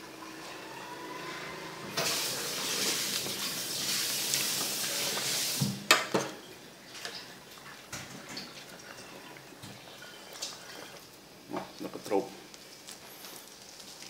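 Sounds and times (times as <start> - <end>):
boiling soup churning and bubbling: 0.0 - 14.0.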